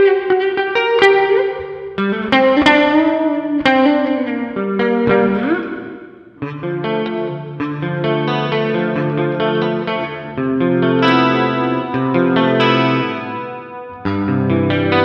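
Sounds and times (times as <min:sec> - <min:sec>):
electric guitar notes: 0:00.0 - 0:15.0.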